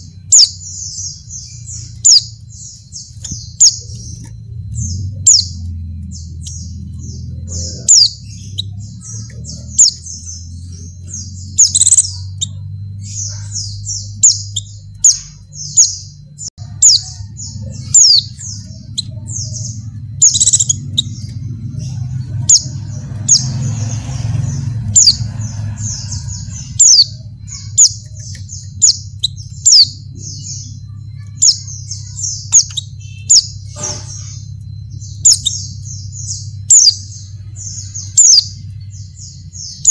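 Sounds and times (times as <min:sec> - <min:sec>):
bird chirping rapidly: 0:00.0 - 0:39.9
low hum: 0:00.0 - 0:39.9.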